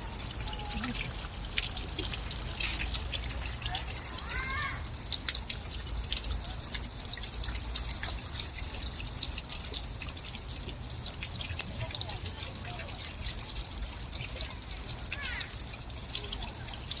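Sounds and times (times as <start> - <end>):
water dripping: 0.0 - 17.0
water trickling and splashing: 0.0 - 17.0.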